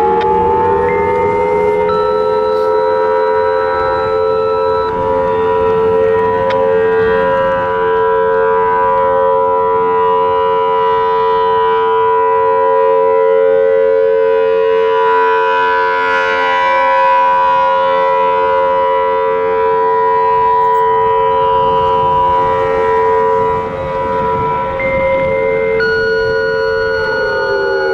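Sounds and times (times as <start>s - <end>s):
warning siren steady tone: 0.0s - 27.9s.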